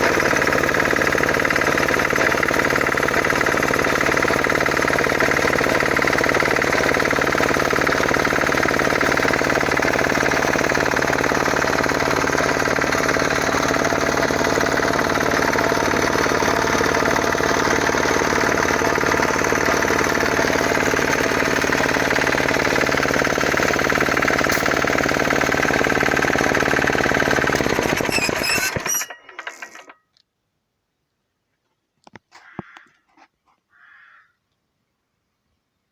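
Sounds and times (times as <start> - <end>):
diesel engine knocking: 0.0 - 28.9.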